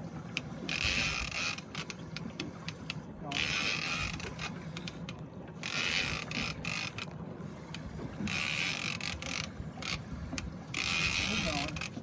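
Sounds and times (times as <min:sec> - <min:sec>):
fishing reel clicking: 0:00.3 - 0:12.0
fishing reel whirring: 0:00.3 - 0:12.0.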